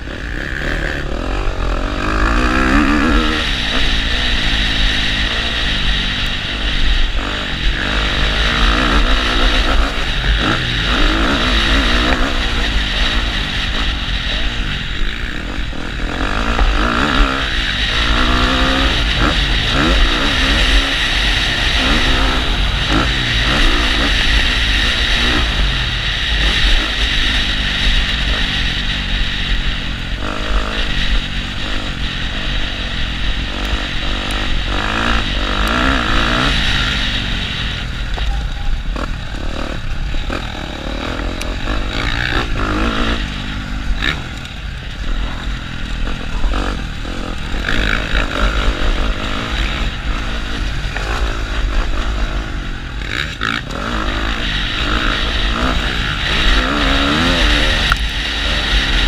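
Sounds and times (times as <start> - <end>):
motocross bike engine revving: 0.0 - 59.0
wind noise on microphone: 0.0 - 59.0.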